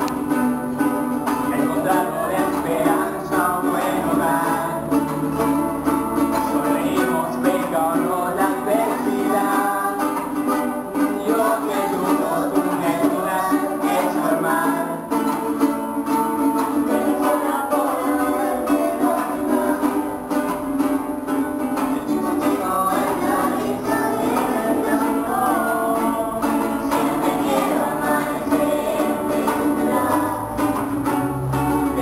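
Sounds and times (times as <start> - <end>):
acoustic guitar: 0.0 - 32.0
group of young voices singing: 0.0 - 32.0
strummed cuatro: 0.0 - 32.0.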